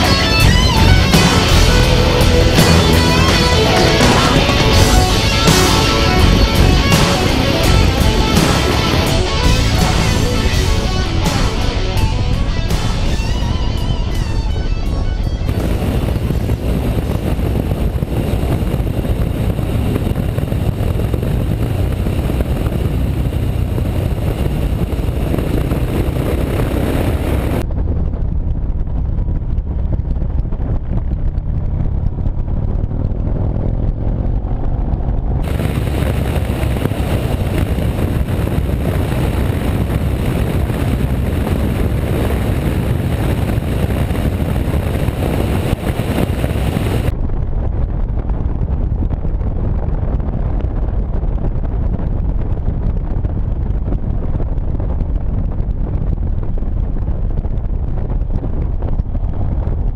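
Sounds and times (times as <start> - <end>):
motorcycle engine cruising: 0.0 - 51.1
wind rumble on microphone: 0.0 - 59.9.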